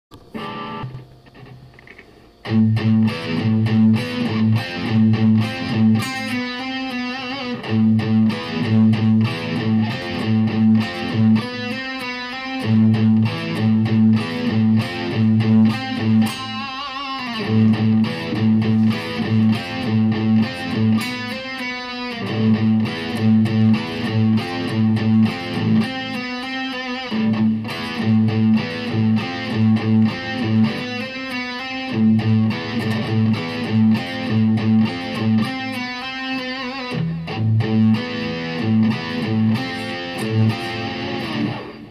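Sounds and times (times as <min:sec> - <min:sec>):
distorted electric guitar riff: 0:00.1 - 0:41.9.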